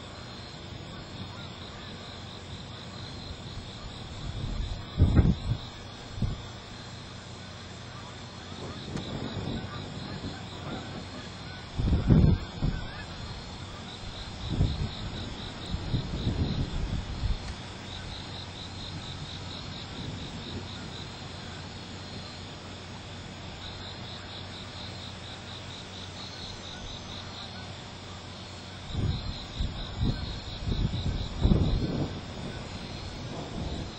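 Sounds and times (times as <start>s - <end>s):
insects chirping: 0.0s - 33.9s.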